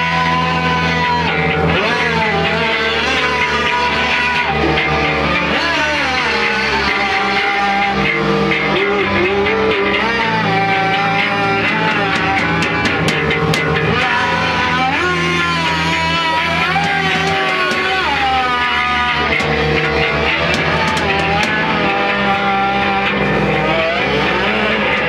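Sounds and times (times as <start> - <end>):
guitar bending held notes: 0.0 - 25.0
rock band playing live: 0.0 - 25.0.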